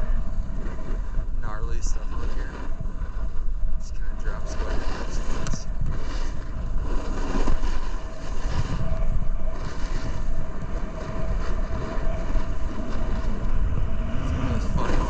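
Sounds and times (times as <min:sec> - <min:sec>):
snowboard scraping over icy snow: 0:00.0 - 0:15.0
wind rushing over microphone: 0:00.0 - 0:15.0.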